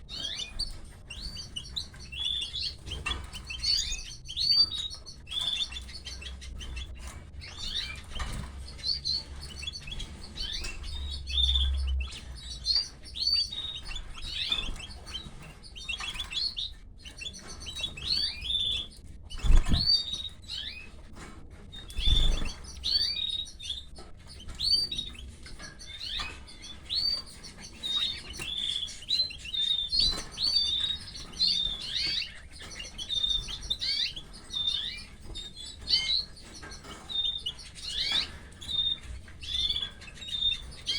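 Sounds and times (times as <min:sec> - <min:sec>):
canaries chirping: 0:00.0 - 0:40.9.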